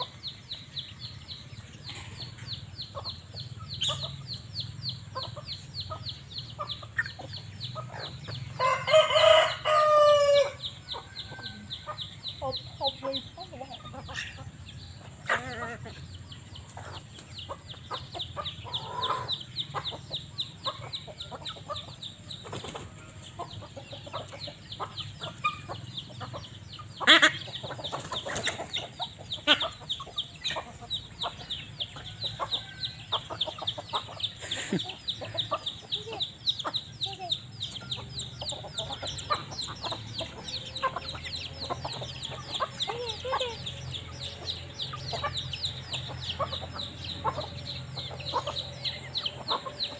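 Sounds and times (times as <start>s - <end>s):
young chickens clucking: 0.0s - 49.9s.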